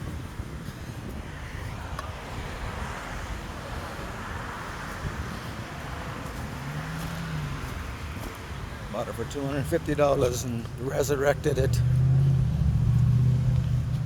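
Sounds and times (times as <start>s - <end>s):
low outdoor rumble: 0.0s - 14.0s
wind buffeting microphone: 0.0s - 14.0s.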